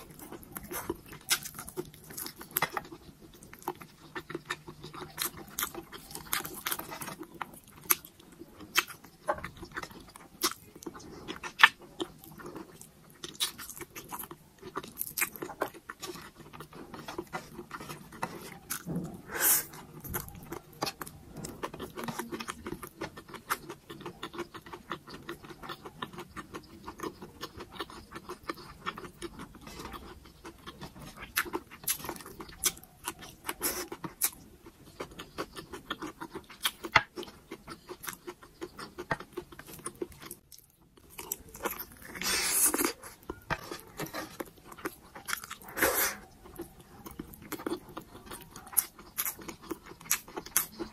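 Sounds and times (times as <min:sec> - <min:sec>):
chewing and mouth clicks: 0:00.0 - 0:50.9.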